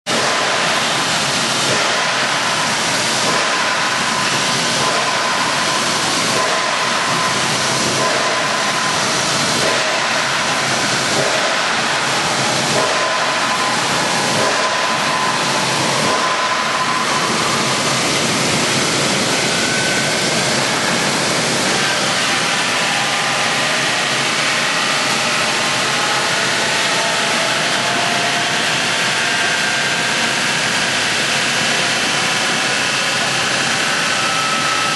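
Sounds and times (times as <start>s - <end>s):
hammer mill rushing noise: 0.1s - 34.9s.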